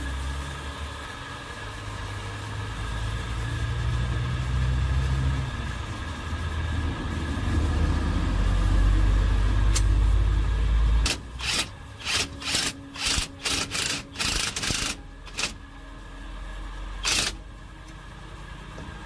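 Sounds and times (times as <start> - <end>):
low machine drone: 0.0 - 19.0.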